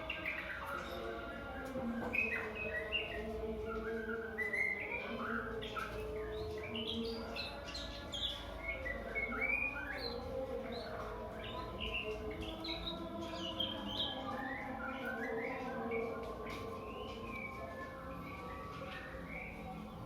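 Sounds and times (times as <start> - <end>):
bird singing whistled notes: 0.0 - 20.0.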